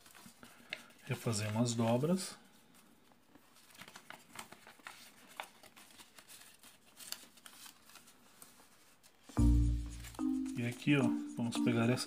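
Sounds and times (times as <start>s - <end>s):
soft ticks of paper folds: 0.0s - 10.8s
paper rustling and crinkling: 0.0s - 11.1s.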